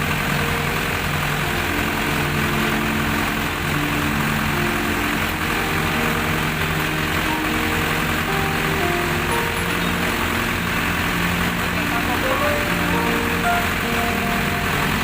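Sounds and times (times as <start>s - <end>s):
background music: 0.0s - 15.0s
diesel engine running: 0.0s - 15.0s.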